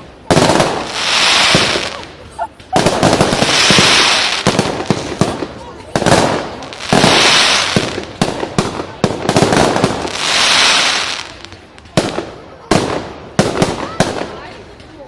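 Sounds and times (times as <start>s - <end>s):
fireworks hissing: 0.0s - 13.1s
fireworks bangs: 0.0s - 14.9s.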